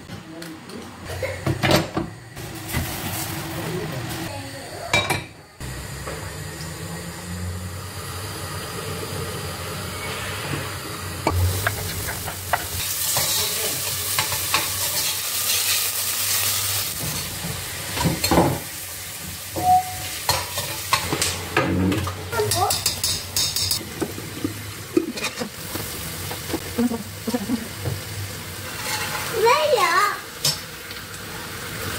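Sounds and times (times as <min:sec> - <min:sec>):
onions sizzling in oil: 0:02.2 - 0:31.9.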